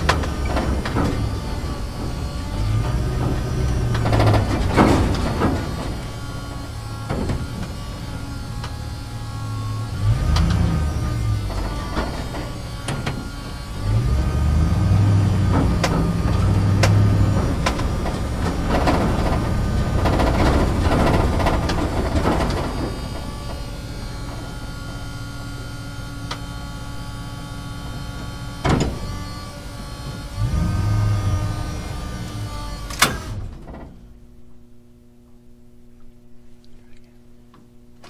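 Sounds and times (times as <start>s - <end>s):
knocks and rattles: 0.0s - 34.3s
truck engine droning: 0.0s - 36.3s.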